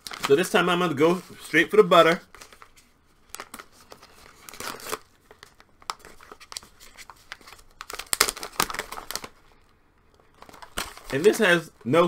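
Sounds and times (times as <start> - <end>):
plastic bag crinkling and tearing: 0.0 - 11.6.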